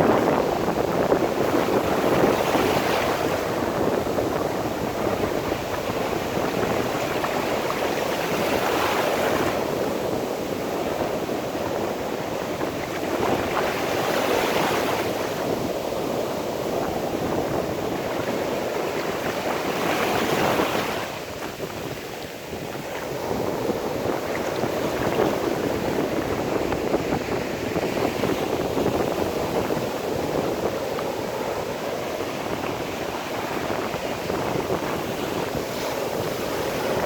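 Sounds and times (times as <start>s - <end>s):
sea waves washing onto shore: 0.0s - 37.0s.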